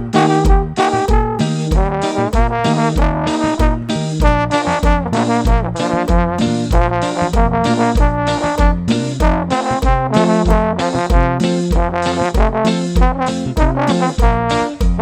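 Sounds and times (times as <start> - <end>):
bass: 0.0 - 15.0
brass band playing: 0.0 - 15.0
kick drum beat: 0.0 - 15.0
trombone melody: 0.0 - 15.0.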